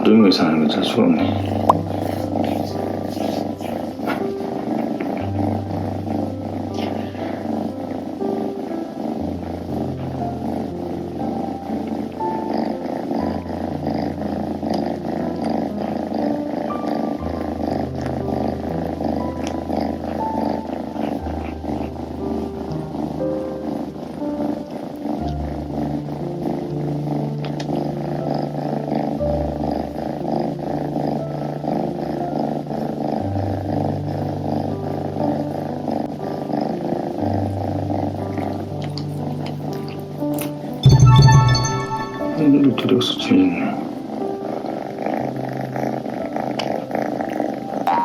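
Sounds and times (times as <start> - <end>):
kittens purring: 0.0 - 40.8, 42.9 - 47.9
soft background music: 0.0 - 48.0.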